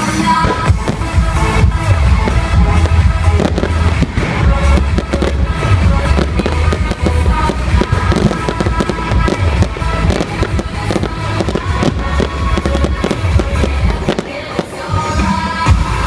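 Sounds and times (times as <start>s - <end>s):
loud music: 0.0s - 16.0s
fireworks popping and banging: 0.3s - 15.2s.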